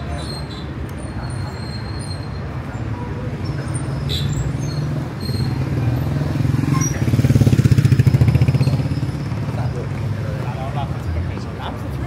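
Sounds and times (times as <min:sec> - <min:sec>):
vehicle engines running: 0:00.0 - 0:12.0
voices of passers-by: 0:00.0 - 0:12.0.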